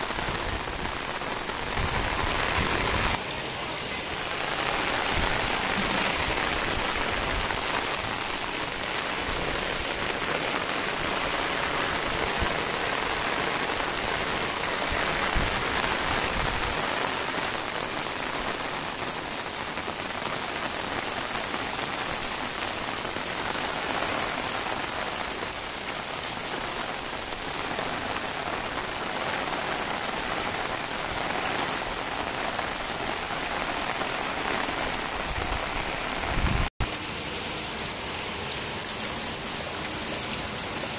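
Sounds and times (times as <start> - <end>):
heavy rain on concrete roof: 0.0 - 40.9.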